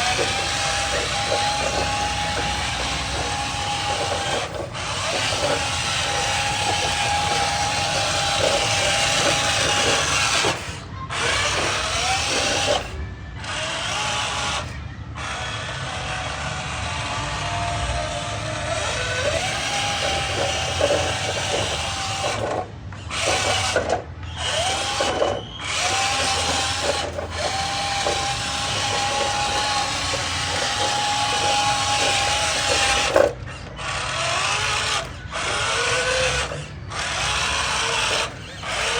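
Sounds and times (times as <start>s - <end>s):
electric toy truck motor whining: 0.0s - 38.9s.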